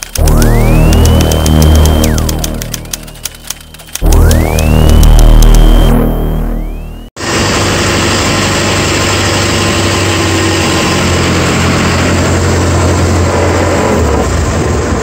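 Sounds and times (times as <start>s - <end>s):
boat engine running: 0.0s - 14.1s.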